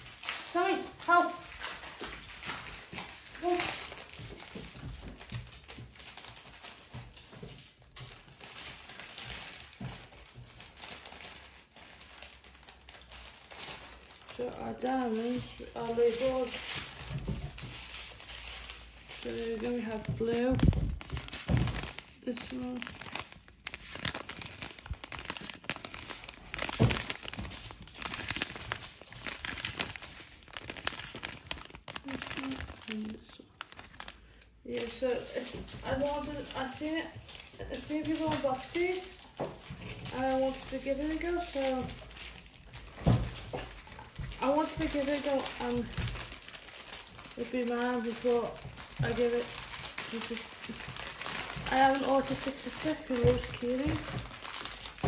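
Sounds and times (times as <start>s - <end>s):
plastic packaging crinkling: 0.0s - 55.0s.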